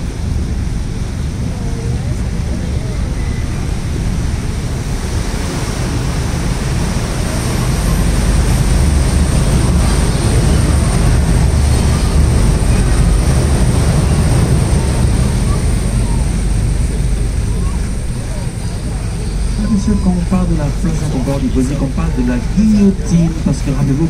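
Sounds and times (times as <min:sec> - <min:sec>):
boat engine rumble and rushing water: 0:00.0 - 0:24.0.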